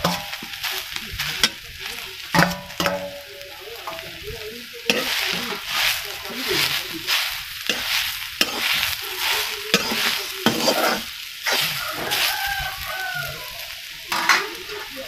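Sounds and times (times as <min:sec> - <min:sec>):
ladle scraping metal pan: 0:00.0 - 0:12.5
greens frying and sizzling: 0:00.0 - 0:15.0.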